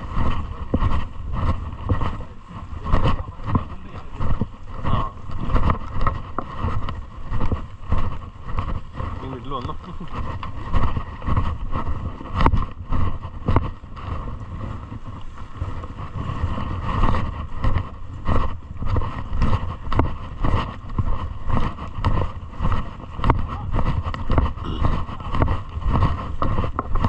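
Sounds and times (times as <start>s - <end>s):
footsteps on wet dirt: 0.0s - 27.0s
wind rumble on microphone: 0.0s - 27.0s.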